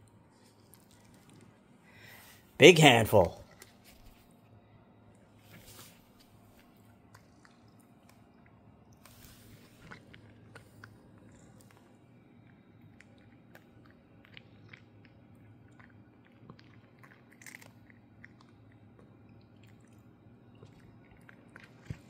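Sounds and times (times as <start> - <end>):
cat chewing crunchy treats: 0.3 - 1.6, 5.5 - 22.0.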